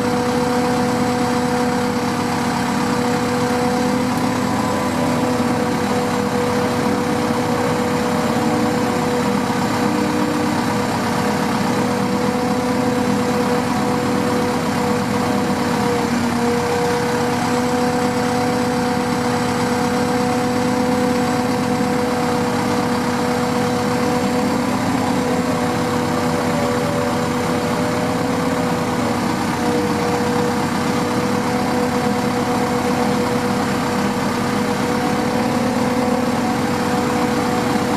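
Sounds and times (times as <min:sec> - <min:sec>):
diesel engine droning: 0:00.0 - 0:37.9.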